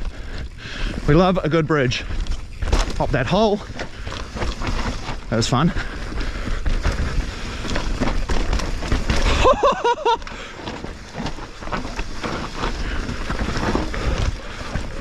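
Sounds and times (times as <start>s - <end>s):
bike rattling over bumps: 0.0s - 15.0s
bike tyres on loose soil: 0.0s - 15.0s.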